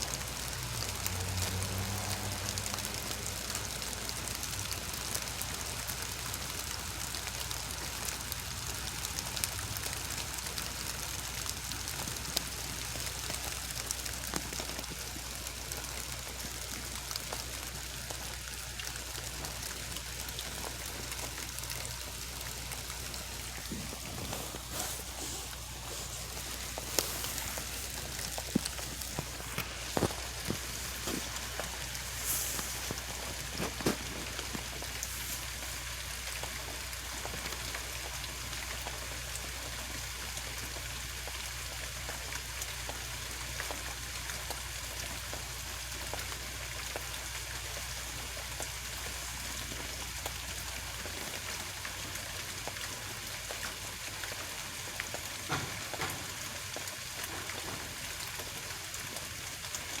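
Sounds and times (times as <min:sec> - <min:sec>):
rain falling: 0:00.0 - 1:00.0.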